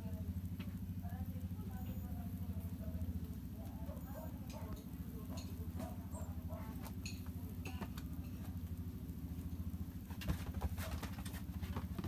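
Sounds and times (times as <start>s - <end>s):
kittens pattering and scratching fabric: 0.0s - 12.0s.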